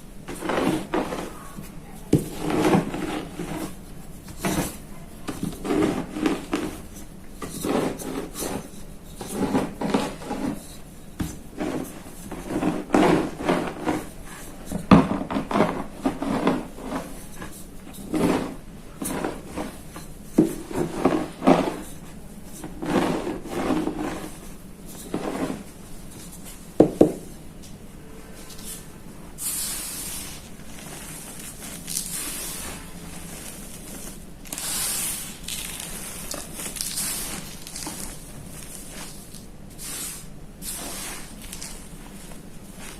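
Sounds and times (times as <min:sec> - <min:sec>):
chalk crunching under rolling pin: 0:00.2 - 0:27.2, 0:29.4 - 0:42.9.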